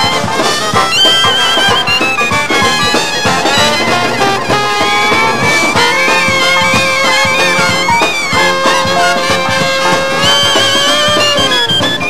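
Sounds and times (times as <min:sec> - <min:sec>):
drum kit beat: 0:00.0 - 0:12.0
jazz band playing: 0:00.0 - 0:12.0.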